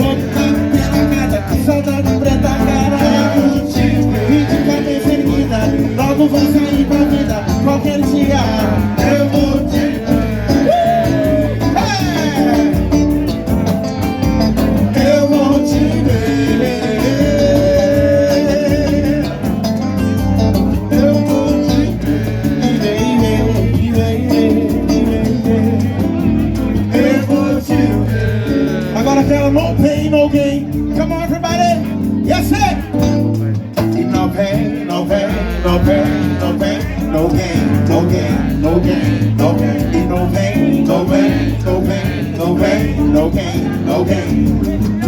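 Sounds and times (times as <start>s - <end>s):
person singing: 0.0s - 31.6s, 34.0s - 45.0s
live band playing: 0.0s - 45.0s.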